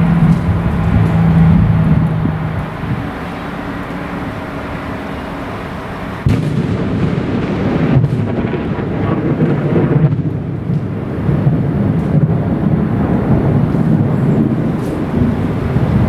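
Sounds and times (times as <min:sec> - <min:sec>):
thunder crackling rumble: 0:00.0 - 0:16.0.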